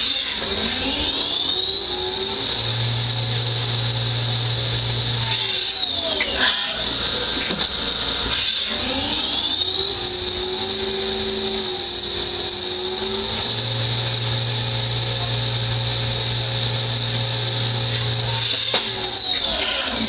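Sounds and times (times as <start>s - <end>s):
lathe high whine: 0.0s - 20.0s.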